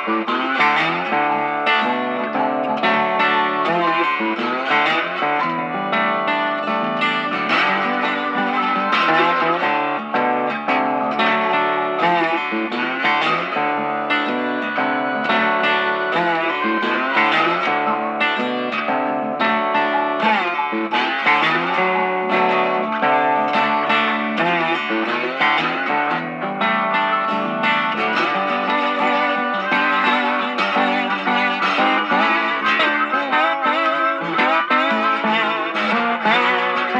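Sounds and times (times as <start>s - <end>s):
electric guitar music: 0.0s - 36.9s.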